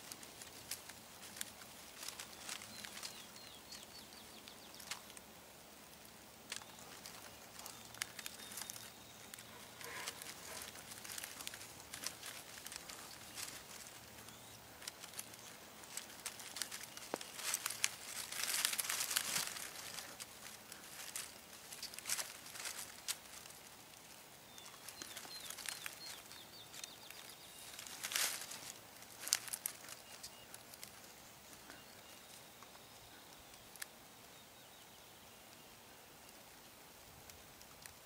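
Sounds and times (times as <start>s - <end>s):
rustling and crackling brush: 0.0s - 38.0s.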